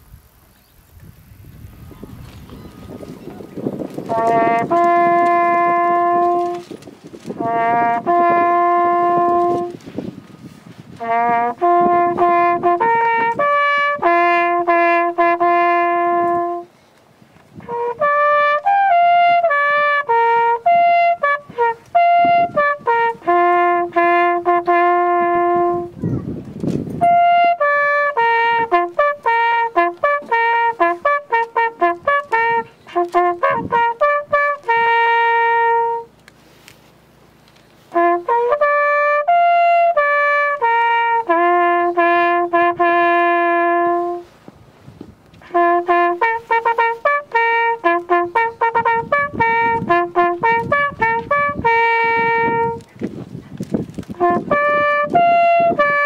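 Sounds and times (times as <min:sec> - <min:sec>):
solo bugle call: 0:02.2 - 0:16.8, 0:17.6 - 0:26.1, 0:27.0 - 0:36.6, 0:37.8 - 0:44.4, 0:45.4 - 0:53.0, 0:54.1 - 0:56.0.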